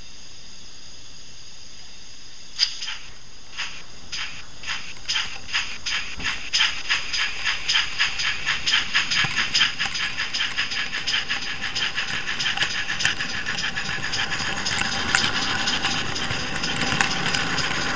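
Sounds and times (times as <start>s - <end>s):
steam locomotive chuffs from speaker: 2.6s - 17.9s.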